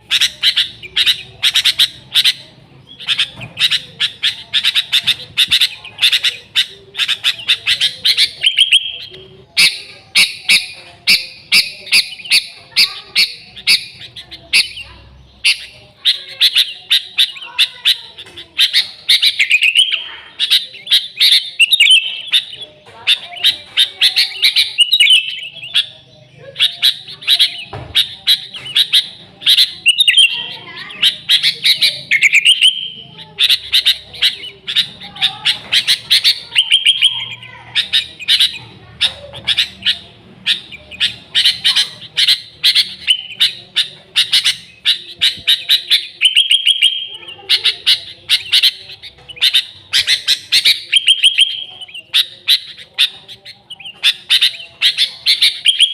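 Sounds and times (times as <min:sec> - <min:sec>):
bulbul singing: 0:00.0 - 0:55.9.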